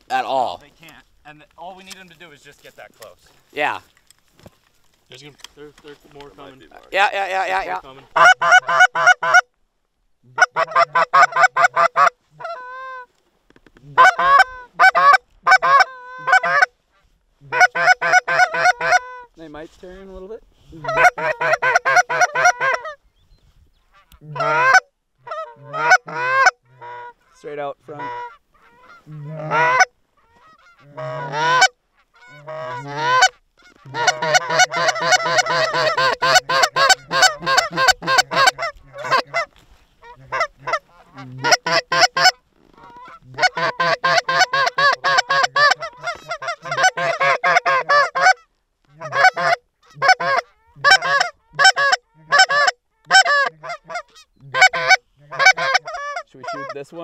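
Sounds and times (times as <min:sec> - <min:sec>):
goose call clucks and honks: 0:06.4 - 0:09.5, 0:10.2 - 0:13.1, 0:13.8 - 0:19.5, 0:20.7 - 0:23.0, 0:23.9 - 0:57.0.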